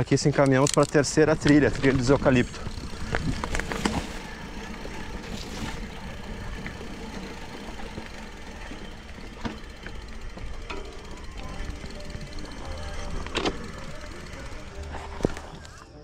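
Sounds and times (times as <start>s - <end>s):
tyres rumbling on dirt: 0.0s - 15.8s
bike clicks and rattles: 0.0s - 16.0s.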